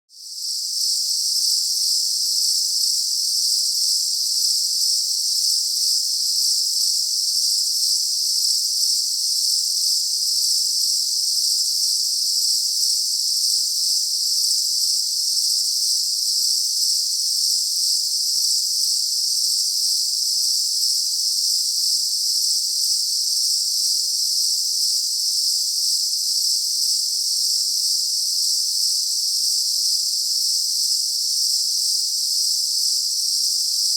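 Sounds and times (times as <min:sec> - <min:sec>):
insects chorus buzzing: 0:00.3 - 0:33.9.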